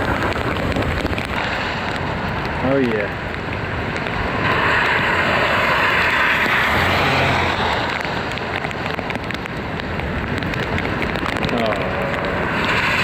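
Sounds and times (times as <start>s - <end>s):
car tyres spraying water: 0.0s - 13.0s
heavy rain falling: 0.0s - 13.0s.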